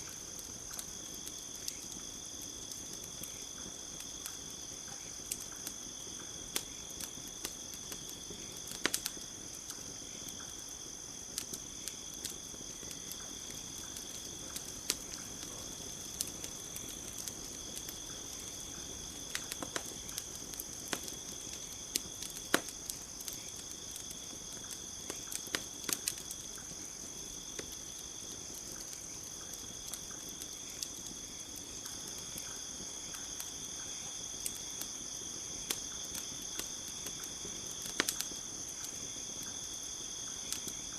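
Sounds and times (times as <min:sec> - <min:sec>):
campfire crackling and popping: 0:00.0 - 0:40.9
insects trilling: 0:00.0 - 0:40.9.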